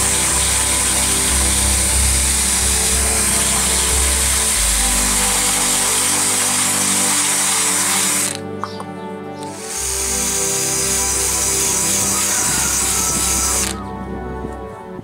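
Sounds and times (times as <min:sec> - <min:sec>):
power tool cutting wood: 0:00.0 - 0:08.8, 0:09.4 - 0:13.8
background music: 0:00.0 - 0:15.0.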